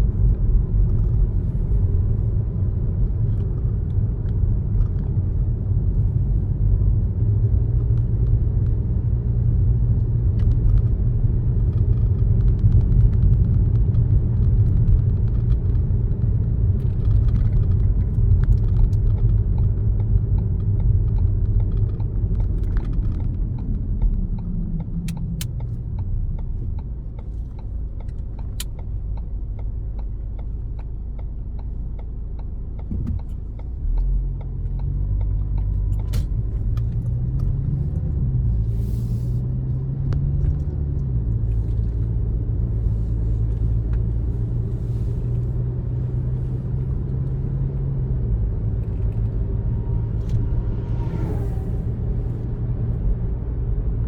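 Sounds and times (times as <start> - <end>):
car engine: 0.0 - 54.0
road rumble: 0.0 - 54.0.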